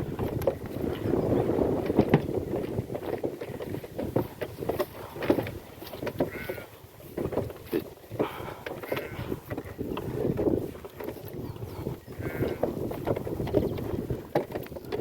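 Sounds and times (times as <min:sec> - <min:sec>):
hooves and cart clattering: 0:00.0 - 0:15.0.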